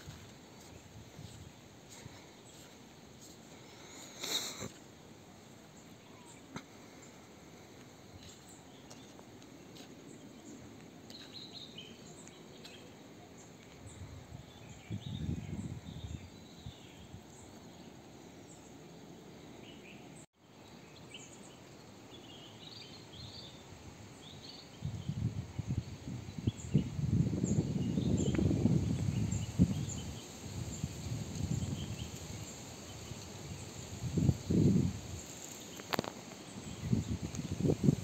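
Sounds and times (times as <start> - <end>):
steady hiss: 0.0 - 14.4, 15.6 - 38.0.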